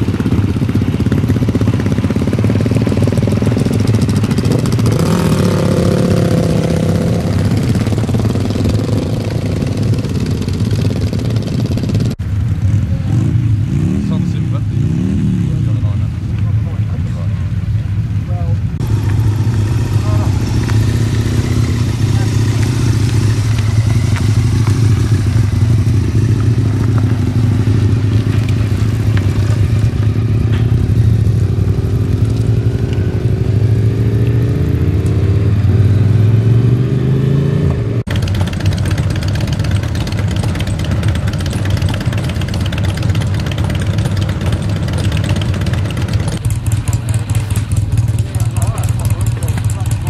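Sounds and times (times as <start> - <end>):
motorcycle engines passing: 0.0 - 50.0.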